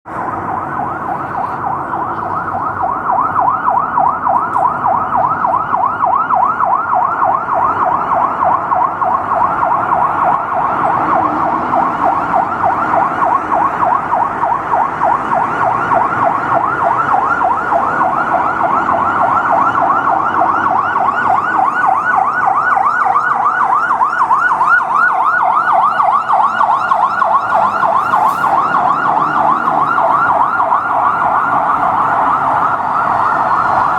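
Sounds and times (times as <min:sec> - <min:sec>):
fire engine siren yelping: 0:00.0 - 0:33.9
street traffic hum: 0:00.0 - 0:33.9.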